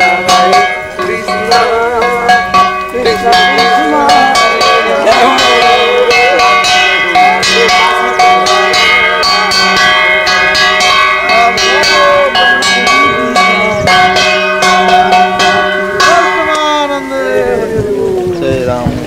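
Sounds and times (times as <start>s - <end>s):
hand cymbals struck: 0.0s - 17.5s
voices singing: 0.0s - 19.0s.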